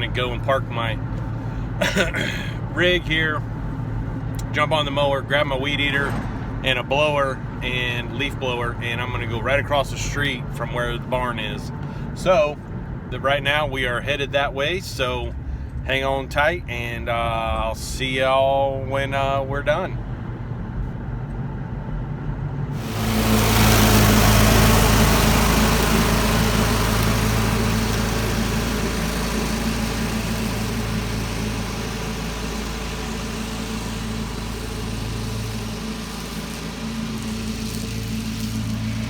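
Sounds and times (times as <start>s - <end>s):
engine droning: 0.0s - 16.0s, 22.5s - 39.0s.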